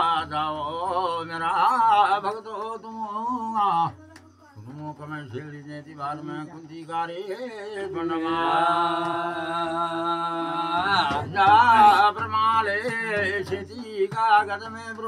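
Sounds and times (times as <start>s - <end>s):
man chanting devotional song: 0.0s - 15.0s.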